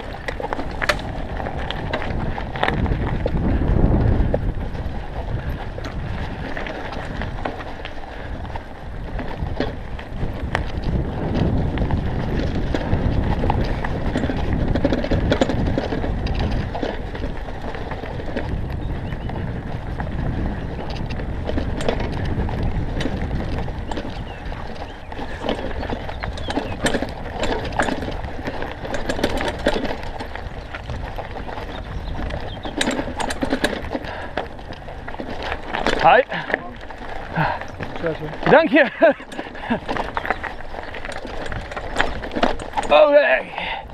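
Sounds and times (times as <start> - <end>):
bike rattling: 0.0 - 43.9
tyres over loose stones: 0.0 - 43.9
wind on microphone: 0.0 - 43.9.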